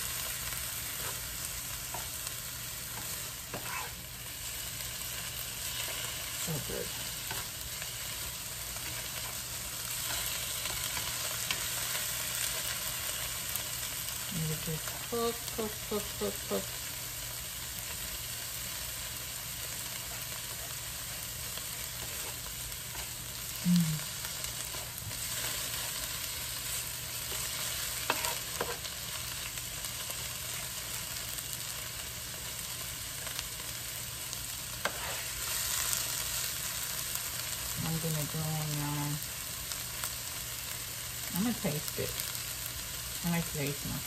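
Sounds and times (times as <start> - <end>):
mushrooms and onions sizzling in pan: 0.0 - 44.0.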